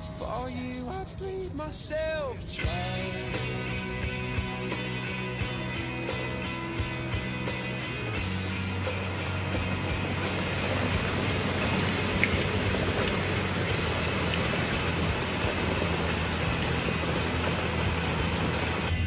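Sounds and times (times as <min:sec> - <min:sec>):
heavy rain pouring: 0:02.9 - 0:19.0.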